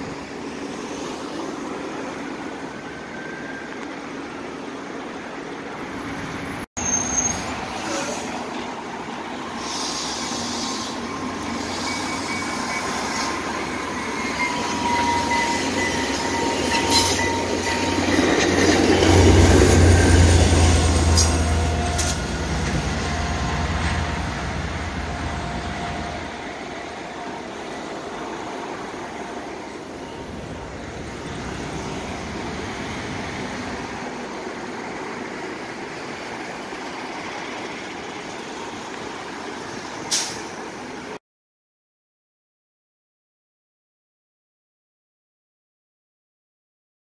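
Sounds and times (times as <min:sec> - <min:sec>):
road traffic noise: 0:00.0 - 0:41.2
train passing on track: 0:00.0 - 0:41.2.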